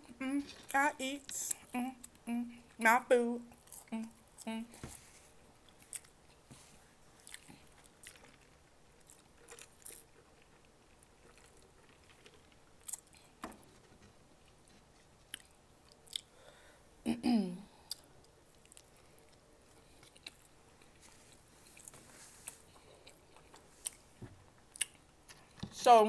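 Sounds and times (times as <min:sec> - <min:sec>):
faint chewing: 0:03.4 - 0:16.6, 0:17.8 - 0:25.6.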